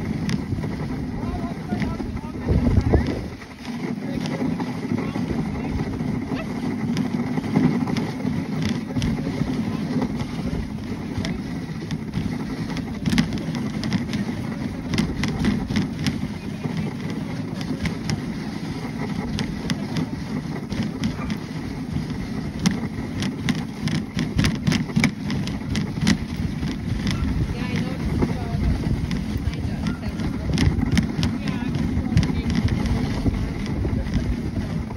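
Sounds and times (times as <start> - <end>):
sharp clicks and knocks: 0.0 - 34.9
sled runners rumbling on snow: 0.0 - 34.9.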